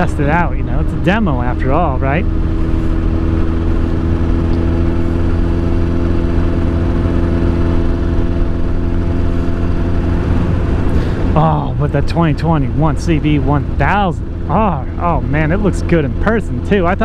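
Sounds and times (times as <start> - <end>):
motorcycle engine running steadily: 0.0 - 17.0
road and wind rumble: 0.0 - 17.0.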